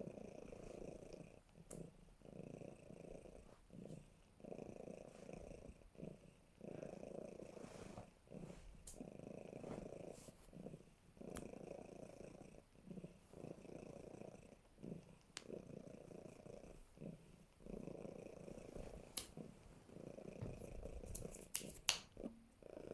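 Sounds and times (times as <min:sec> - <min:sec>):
cat snoring: 0:00.0 - 0:21.2, 0:22.6 - 0:22.9.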